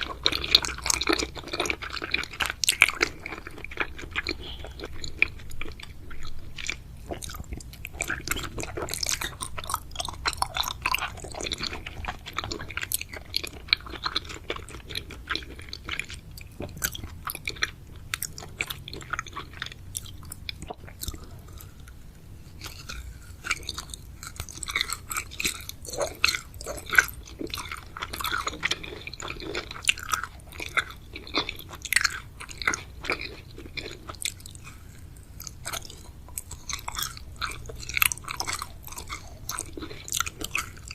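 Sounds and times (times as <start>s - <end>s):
chewing gummy sweets: 0.0s - 40.9s.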